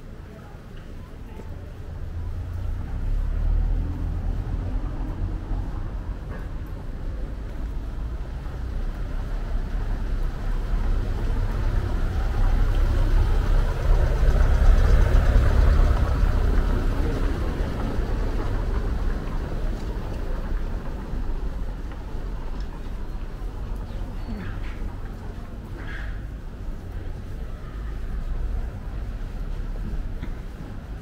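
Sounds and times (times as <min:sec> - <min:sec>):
tyre noise on cobblestones: 0:00.0 - 0:31.0
car engine rumble: 0:02.0 - 0:31.0.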